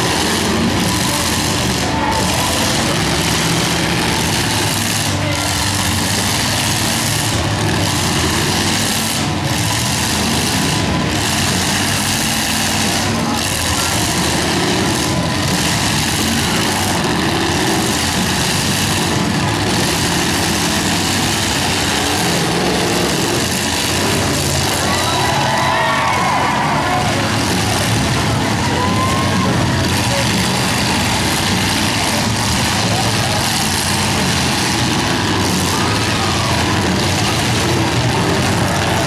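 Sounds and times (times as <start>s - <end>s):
car engines revving: 0.0s - 39.0s
cars grinding against each other: 0.0s - 39.0s.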